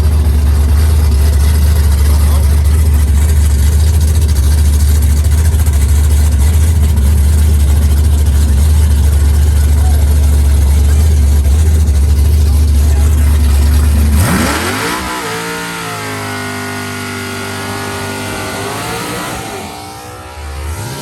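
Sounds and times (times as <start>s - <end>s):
drag race engines roaring: 0.0s - 21.0s.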